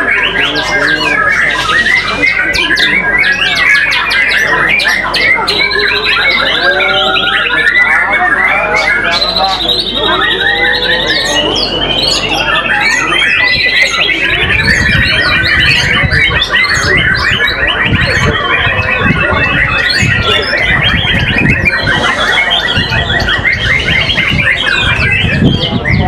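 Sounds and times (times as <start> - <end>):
songbirds chorus of trills: 0.0 - 26.0.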